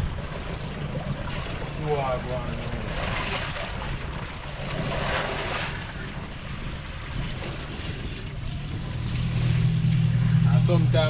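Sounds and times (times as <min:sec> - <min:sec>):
low rumble: 0:00.0 - 0:11.0
sea rushing: 0:00.0 - 0:11.0
wind buffeting microphone: 0:00.0 - 0:11.0.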